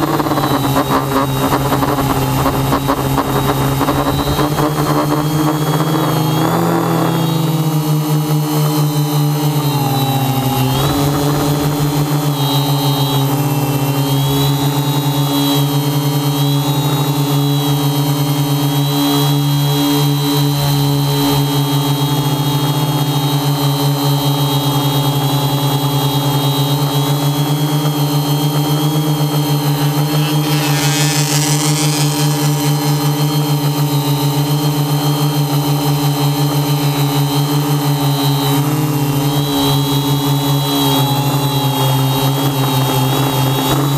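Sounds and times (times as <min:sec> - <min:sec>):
drone propellers buzzing: 0:00.0 - 0:43.9.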